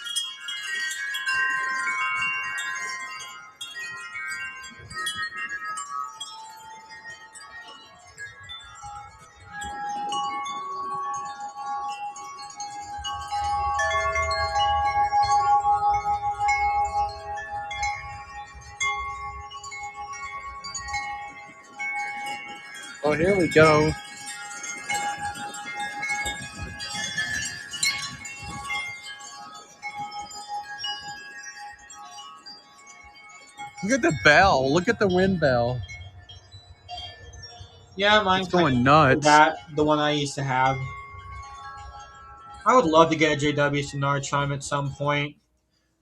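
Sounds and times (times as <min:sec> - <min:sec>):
wind rumbling on microphone: 0:00.0 - 0:32.4, 0:33.6 - 0:44.9
wind chimes ringing: 0:00.0 - 0:46.0.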